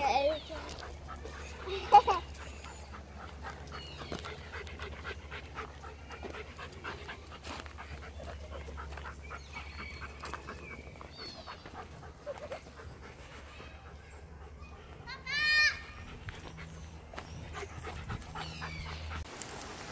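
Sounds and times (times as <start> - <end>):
animal panting: 0.0 - 19.6.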